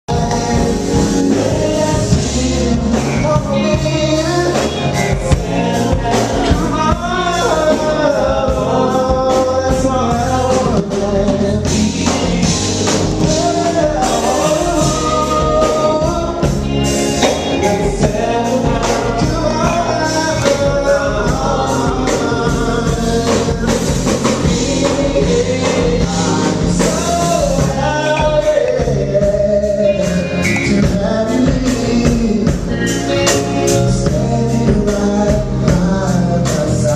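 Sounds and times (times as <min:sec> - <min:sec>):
live funk band playing: 0:00.0 - 0:36.9
person singing lead vocal: 0:00.0 - 0:36.9.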